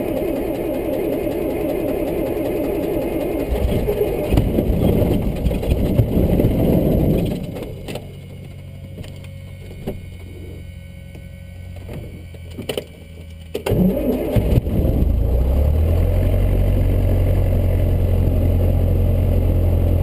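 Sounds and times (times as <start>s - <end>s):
piston aircraft engine running: 0.0s - 20.0s.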